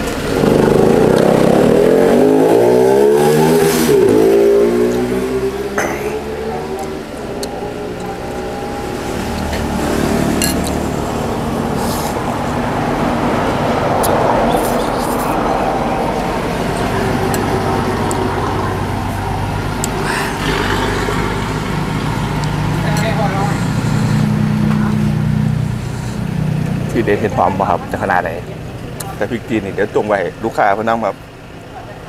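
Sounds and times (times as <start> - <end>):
vehicle passing: 0.0 - 32.0.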